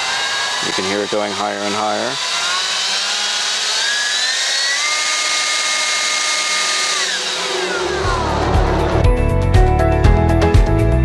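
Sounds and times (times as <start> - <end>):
leaf blower running: 0.0 - 9.4.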